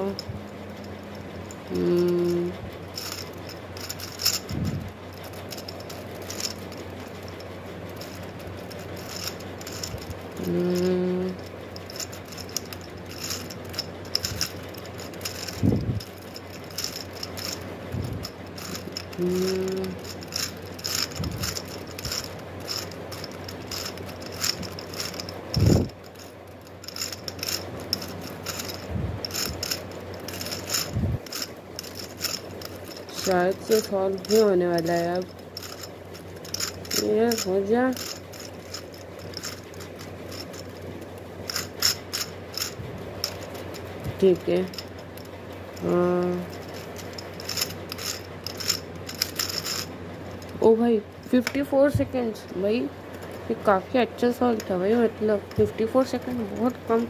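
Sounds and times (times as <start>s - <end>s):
short low hums: 0.0s - 50.5s
plastic gear cube clicking and rattling: 1.6s - 50.6s.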